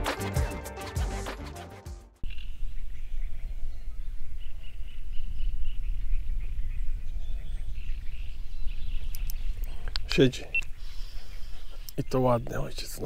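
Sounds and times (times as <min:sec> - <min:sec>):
small birds chirping: 0:02.2 - 0:13.0.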